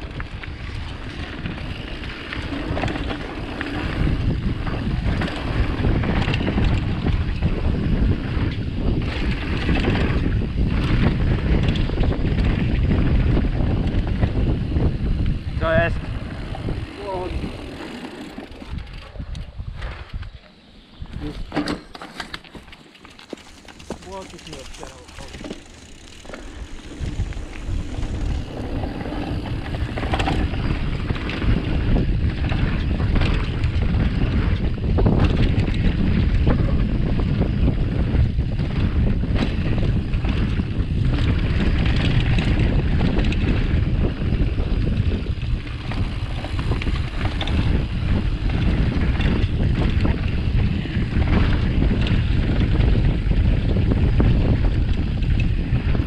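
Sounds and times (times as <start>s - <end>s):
wind buffeting microphone: 0.0s - 21.6s, 22.6s - 56.0s
bike tyres rumbling on rough ground: 0.0s - 56.0s.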